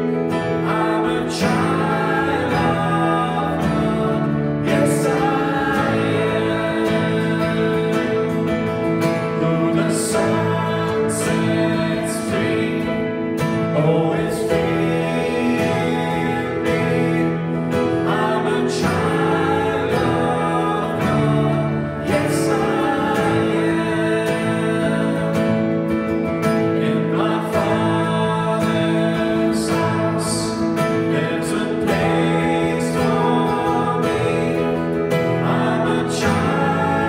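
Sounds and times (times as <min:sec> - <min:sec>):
guitar: 0:00.0 - 0:37.0
person singing: 0:00.0 - 0:37.0.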